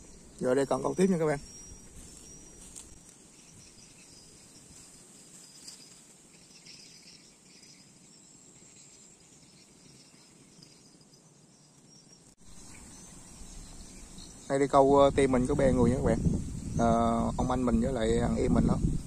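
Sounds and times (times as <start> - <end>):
insects chirring in grass: 0.0 - 19.0.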